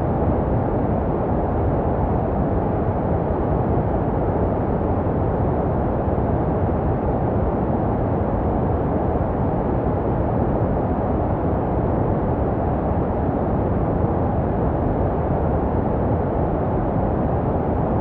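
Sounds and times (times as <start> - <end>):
low muffled white noise: 0.0 - 18.0.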